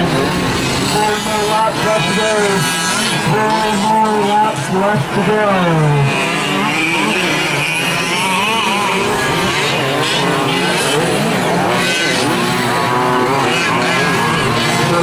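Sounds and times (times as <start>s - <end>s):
small two-stroke engines racing: 0.0s - 15.0s.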